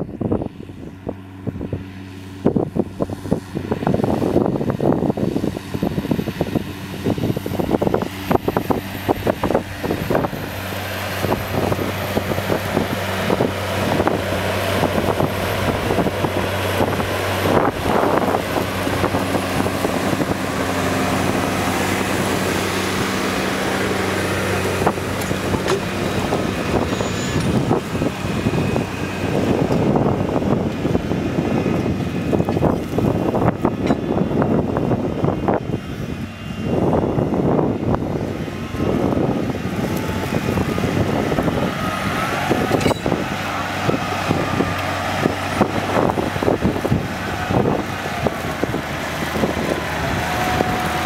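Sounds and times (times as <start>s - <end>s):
tractor diesel engine under load: 0.0s - 51.0s.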